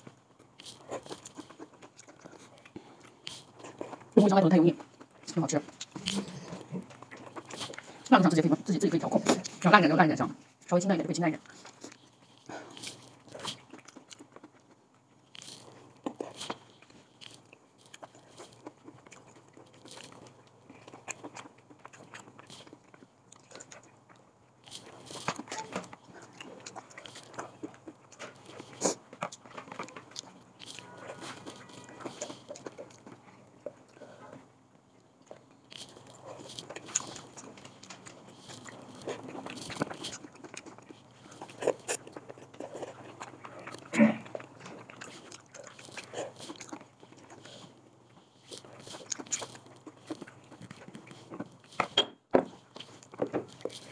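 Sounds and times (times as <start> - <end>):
person chewing and crunching: 0.0 - 9.8, 11.4 - 53.9.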